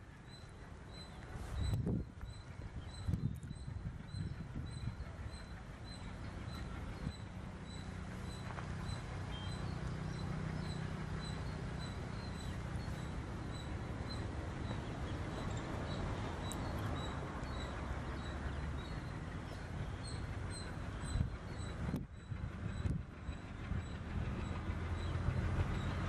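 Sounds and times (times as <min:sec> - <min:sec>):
distant locomotive engine throb: 0:00.0 - 0:26.0.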